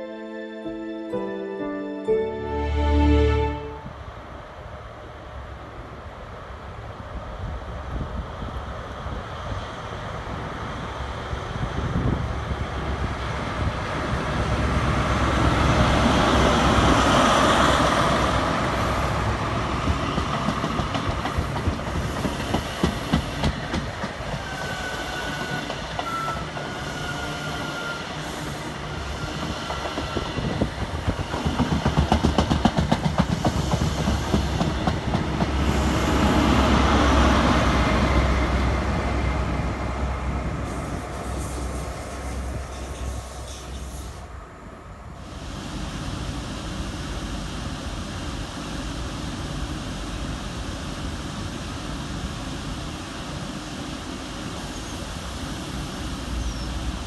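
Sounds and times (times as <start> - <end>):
diesel train engine: 2.7 - 57.0.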